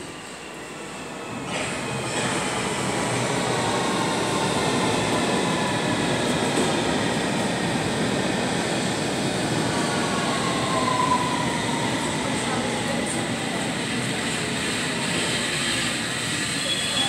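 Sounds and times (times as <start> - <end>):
train rumble and rail noise: 0.0 - 17.0.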